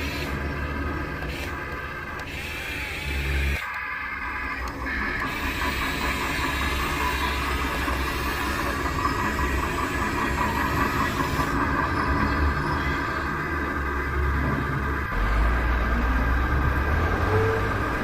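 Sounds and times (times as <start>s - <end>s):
motor running with rumble: 0.0s - 18.0s.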